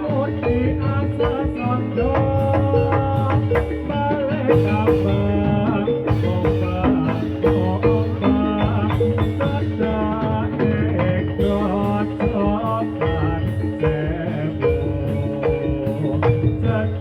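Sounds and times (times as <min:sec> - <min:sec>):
ringing metallophone melody: 0:00.0 - 0:17.0
steady drum beats: 0:00.0 - 0:17.0.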